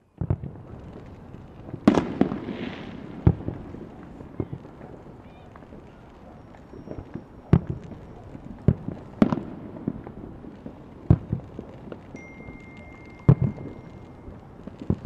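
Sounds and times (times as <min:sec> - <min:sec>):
firework crackles: 0:00.0 - 0:15.0
firework shells bursting: 0:00.2 - 0:15.0.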